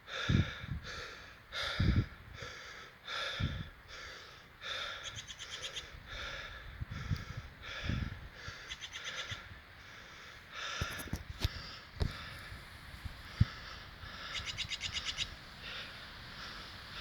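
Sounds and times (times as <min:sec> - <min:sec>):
person breathing heavily: 0:00.0 - 0:05.1, 0:06.0 - 0:08.7, 0:09.8 - 0:14.5, 0:15.6 - 0:17.0.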